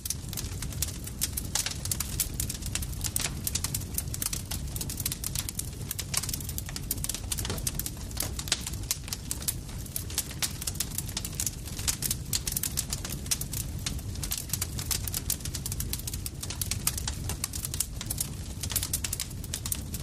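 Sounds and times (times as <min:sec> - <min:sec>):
burning wood popping: 0:00.0 - 0:20.0
campfire crackling: 0:00.0 - 0:20.0
low rumble of flames: 0:00.0 - 0:20.0.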